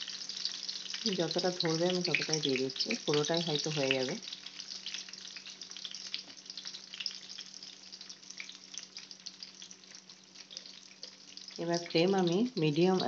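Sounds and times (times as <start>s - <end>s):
eggplant sizzling in oil: 0.0s - 13.0s.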